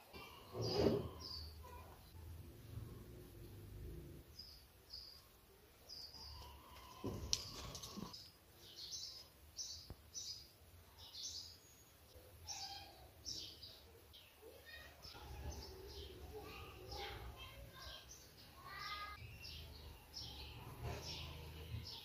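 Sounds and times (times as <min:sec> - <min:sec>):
small birds chirping: 0:00.1 - 0:02.2, 0:02.8 - 0:22.0.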